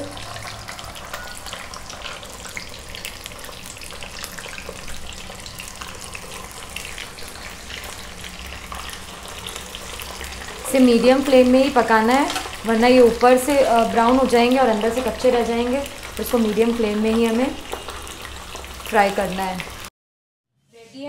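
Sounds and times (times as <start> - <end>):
food deep-frying in oil: 0.0 - 19.9.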